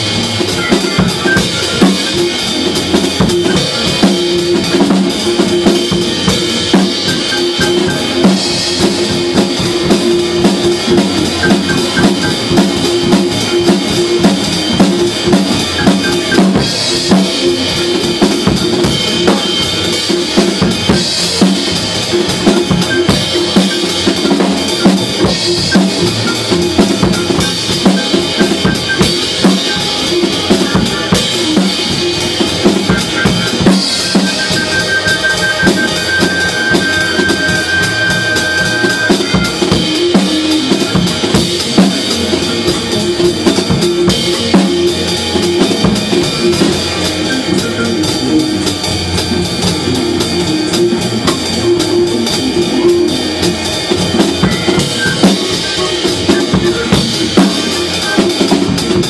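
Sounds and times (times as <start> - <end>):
drum kit groove: 0.0 - 59.0.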